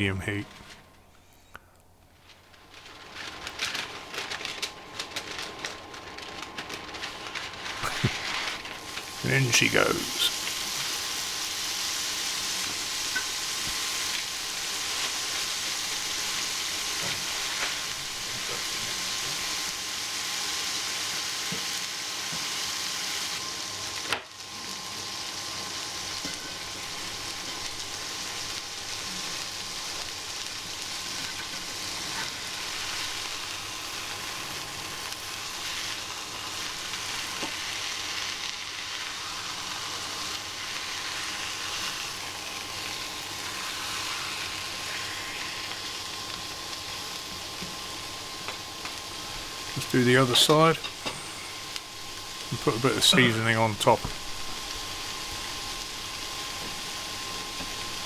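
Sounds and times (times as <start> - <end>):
meat sizzling in a frying pan: 2.3 - 58.0.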